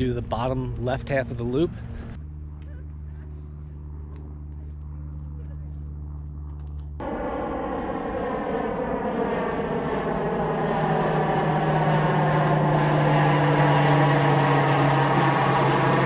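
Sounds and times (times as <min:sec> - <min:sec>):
propeller aircraft passing overhead: 0:00.0 - 0:16.0.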